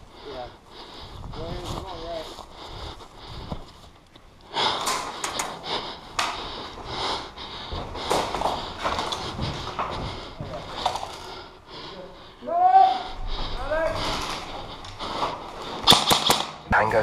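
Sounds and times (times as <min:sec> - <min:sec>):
heavy rushed breathing: 0:00.0 - 0:17.0
rustling movement: 0:00.7 - 0:12.4, 0:13.0 - 0:16.4.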